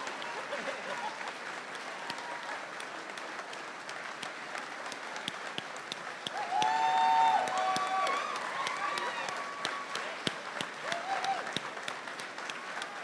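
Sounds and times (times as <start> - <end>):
audience cheering: 0.0 - 3.6, 4.6 - 13.0
audience applauding: 0.0 - 13.0.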